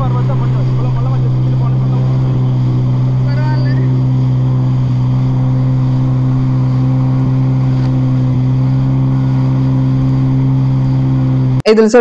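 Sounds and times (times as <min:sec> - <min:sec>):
jet ski engine droning: 0:00.0 - 0:12.0.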